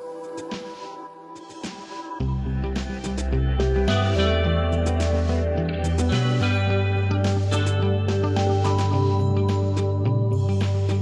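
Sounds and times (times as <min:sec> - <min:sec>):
background music with bass: 0:00.4 - 0:11.0.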